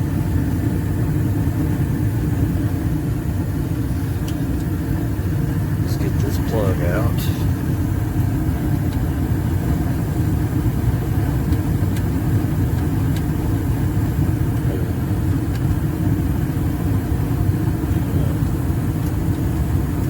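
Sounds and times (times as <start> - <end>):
furnace burner rumble: 0.0 - 20.0.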